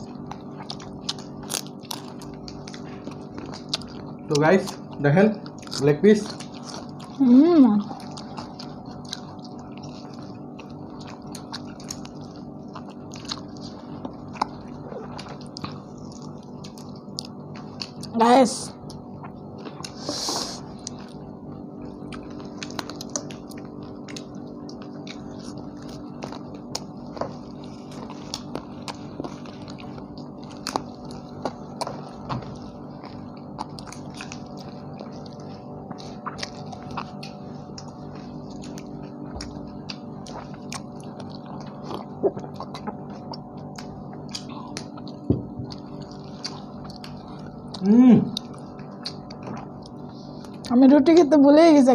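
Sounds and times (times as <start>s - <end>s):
people chewing food: 0.0s - 51.9s
steady low hum: 0.0s - 51.9s.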